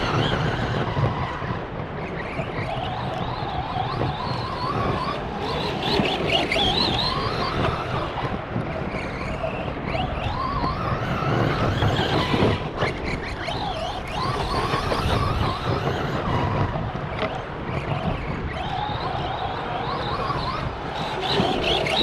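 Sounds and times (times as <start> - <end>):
rc truck electric motor whine: 0.0 - 22.0.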